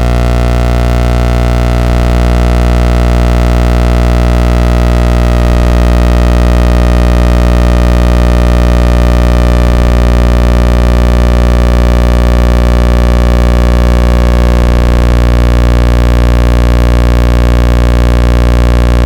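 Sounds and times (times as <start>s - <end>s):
low buzzing oscillator tone: 0.0s - 19.0s.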